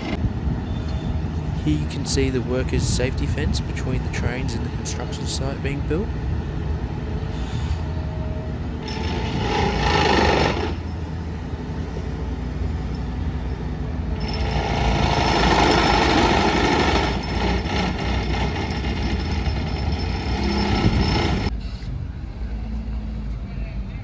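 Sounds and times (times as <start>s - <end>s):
construction machinery working: 0.0s - 23.4s.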